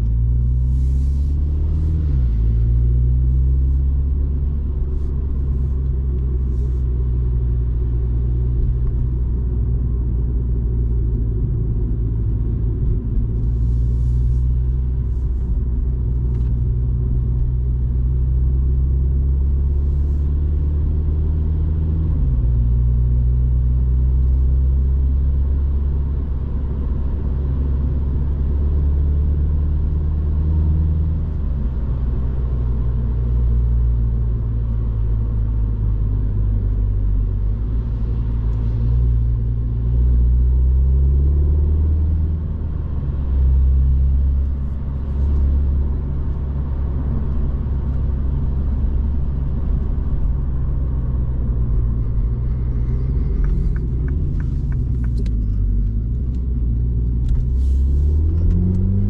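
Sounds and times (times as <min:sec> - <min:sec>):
car engine hum from inside: 0:00.0 - 0:59.0.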